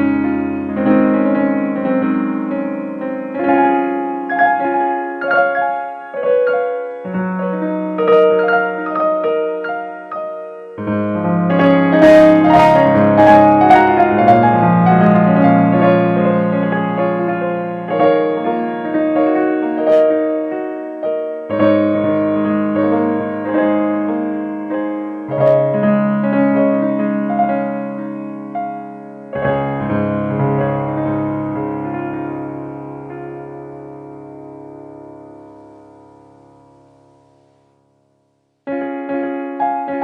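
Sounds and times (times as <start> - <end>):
slow piano music: 0.0 - 40.0.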